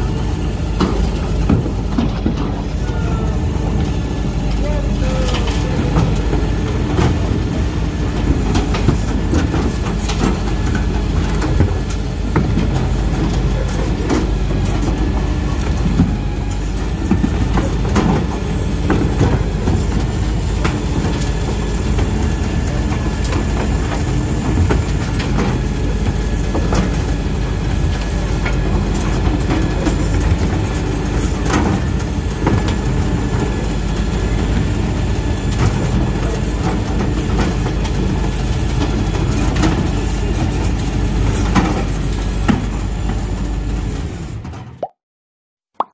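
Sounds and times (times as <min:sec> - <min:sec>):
garbage truck engine rumble: 0:00.0 - 0:44.8
wheelie bins knocking and clattering: 0:05.3 - 0:43.4.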